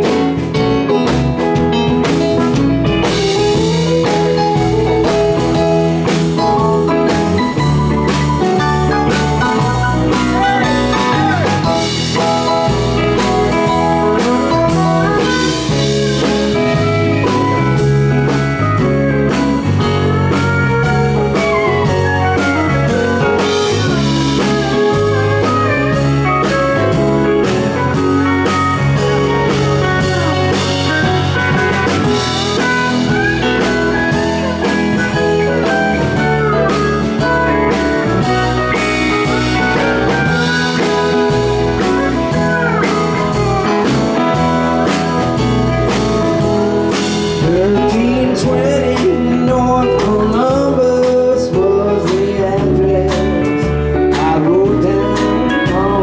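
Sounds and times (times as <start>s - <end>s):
drum kit: 0.0s - 56.0s
electric guitar: 0.0s - 56.0s
keyboards: 0.0s - 56.0s
pedal steel guitar sliding: 2.3s - 47.4s.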